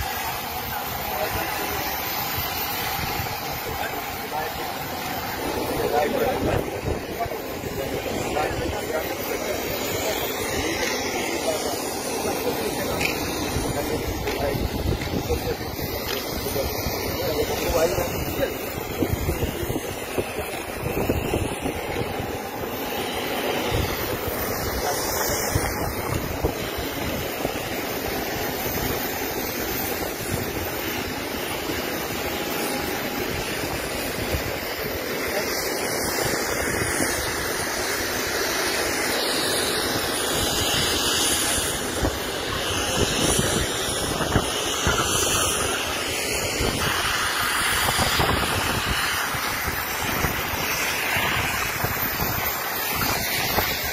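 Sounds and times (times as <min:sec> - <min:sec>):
steady rushing noise: 0:00.0 - 0:53.9
wind buffeting microphone: 0:00.0 - 0:53.9.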